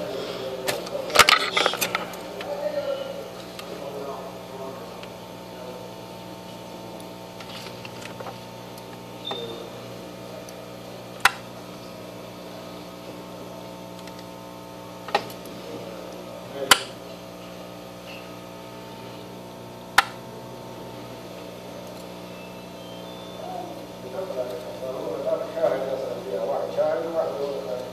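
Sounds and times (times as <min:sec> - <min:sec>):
electrical hum: 0:00.0 - 0:27.9.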